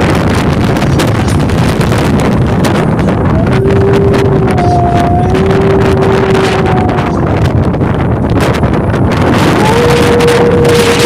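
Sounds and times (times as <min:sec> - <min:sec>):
wind gusting over microphone: 0:00.0 - 0:11.0.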